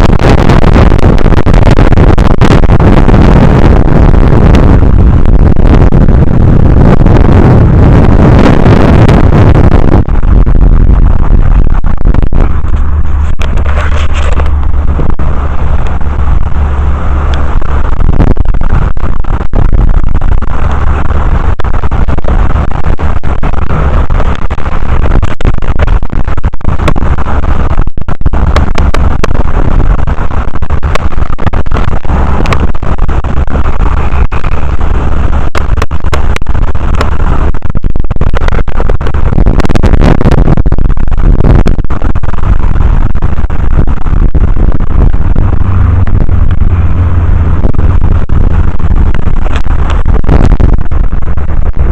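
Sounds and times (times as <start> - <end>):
strong wind buffeting microphone: 0.0 - 51.9.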